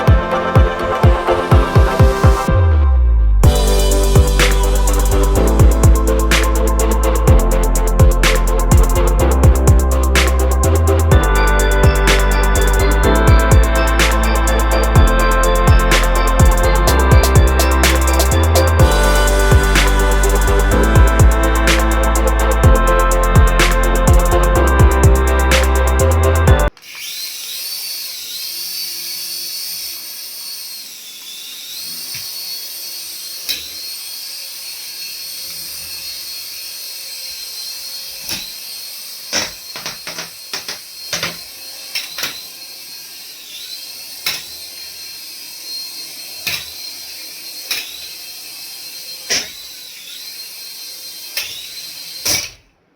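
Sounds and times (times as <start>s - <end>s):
small electric motor whining: 3.4s - 52.7s.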